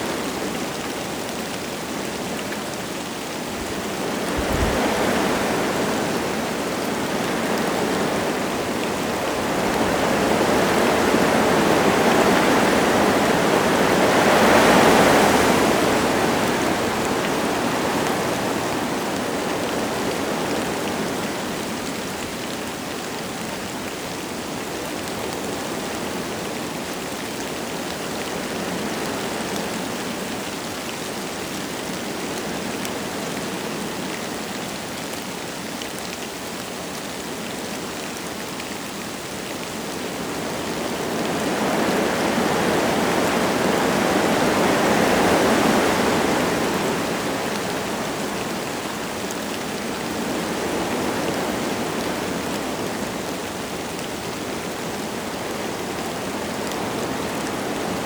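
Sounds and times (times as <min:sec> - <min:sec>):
light rain falling: 0:00.0 - 0:58.0
wind gusting through trees: 0:00.0 - 0:58.0.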